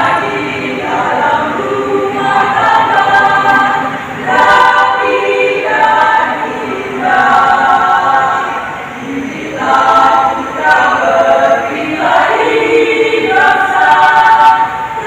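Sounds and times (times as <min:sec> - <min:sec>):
women's choir singing: 0:00.0 - 0:15.0.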